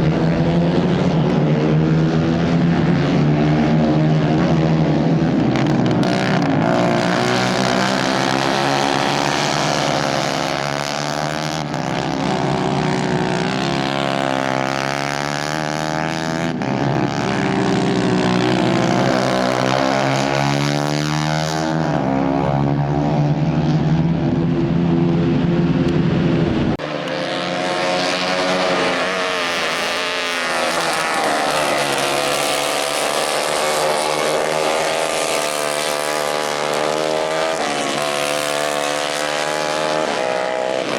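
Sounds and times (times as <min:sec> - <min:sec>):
racing kart engines revving: 0:00.0 - 0:40.9.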